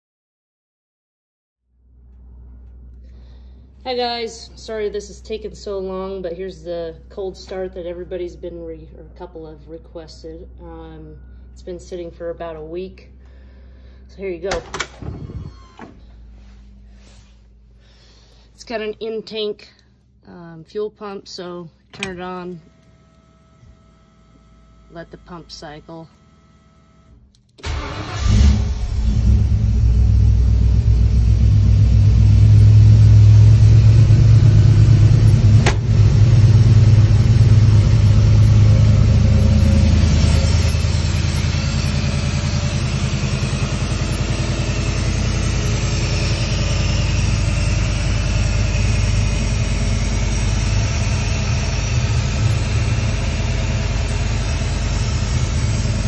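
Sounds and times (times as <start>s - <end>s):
car engine starting and idling: 1.8s - 17.4s, 21.9s - 56.0s.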